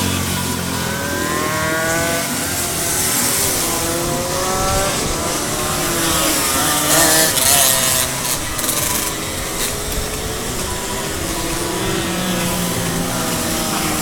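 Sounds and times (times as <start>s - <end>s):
racing car engines revving: 0.0s - 14.0s.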